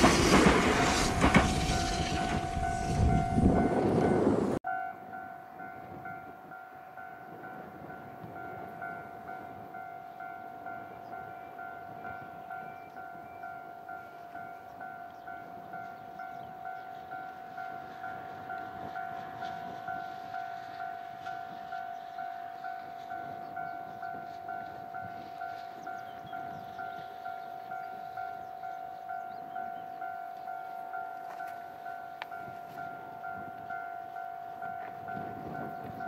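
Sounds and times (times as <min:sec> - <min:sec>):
level crossing warning bell: 0:01.2 - 0:36.0.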